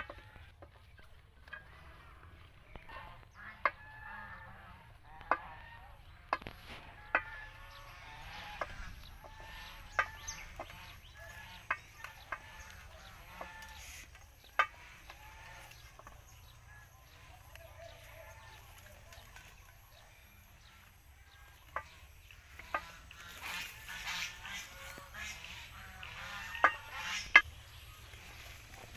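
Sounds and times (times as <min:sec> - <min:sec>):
faint chicken calls: 0:00.0 - 0:28.9.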